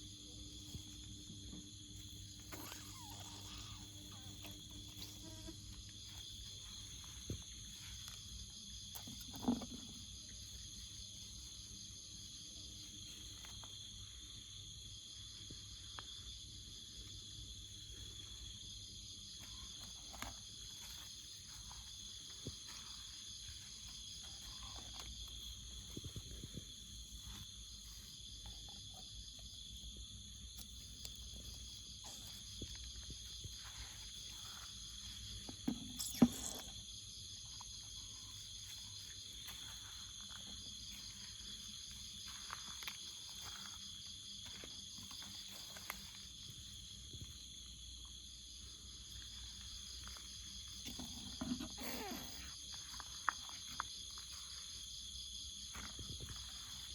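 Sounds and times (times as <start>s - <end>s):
jungle insects droning: 0.0s - 56.9s.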